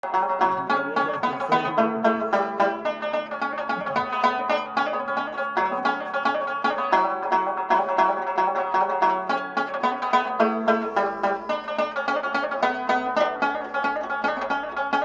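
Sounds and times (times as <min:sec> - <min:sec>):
lute plucked melody: 0:00.0 - 0:15.0.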